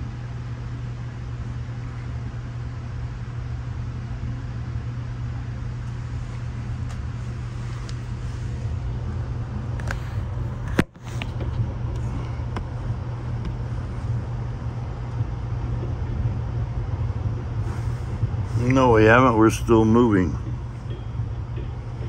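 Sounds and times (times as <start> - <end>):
train car rumble: 0.0 - 22.0.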